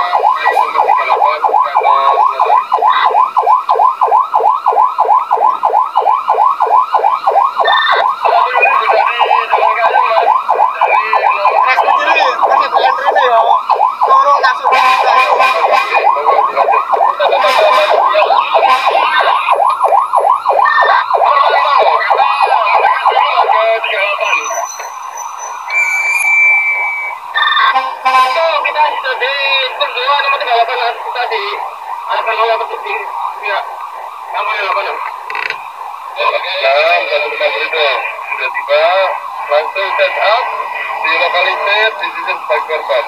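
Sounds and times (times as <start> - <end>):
fire engine siren yelping: 0.0 - 43.0.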